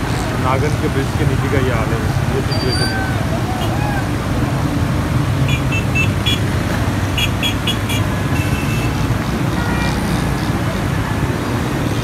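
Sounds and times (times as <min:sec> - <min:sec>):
traffic driving through water: 0:00.0 - 0:12.0.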